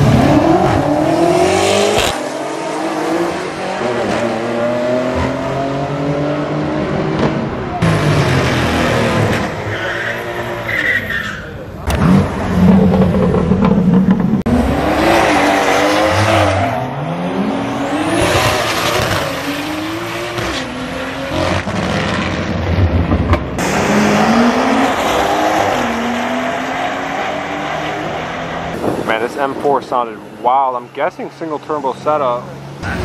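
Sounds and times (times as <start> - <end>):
car engine revving through gears: 0.0 - 9.6, 11.8 - 29.0.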